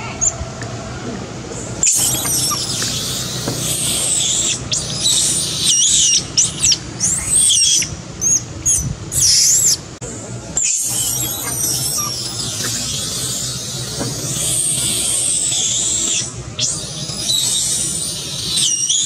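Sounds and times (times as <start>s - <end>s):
young monkey screaming: 1.8s - 9.8s, 10.6s - 19.0s.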